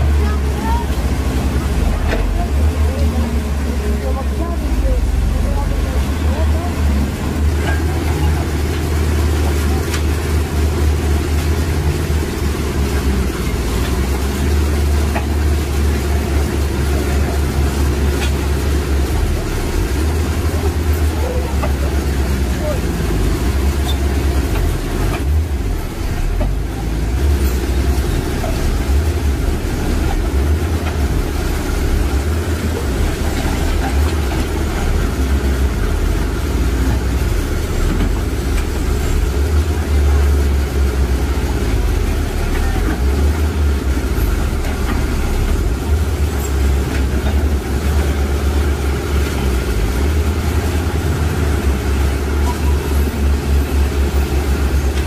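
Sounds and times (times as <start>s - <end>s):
excavator diesel engine rumbling: 0.0s - 55.0s.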